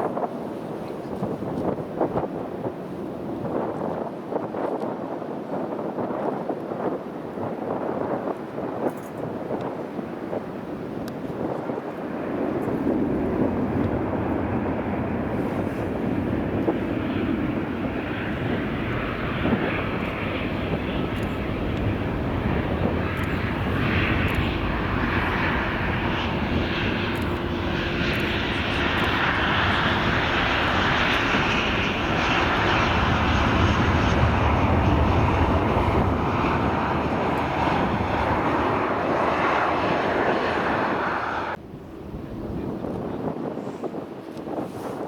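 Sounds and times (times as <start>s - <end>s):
jet airliner engine rush: 0.0s - 45.0s.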